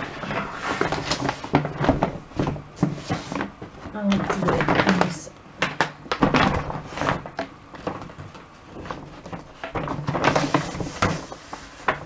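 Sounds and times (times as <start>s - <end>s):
foil gift bag rustling: 0.0s - 5.2s, 6.1s - 12.0s.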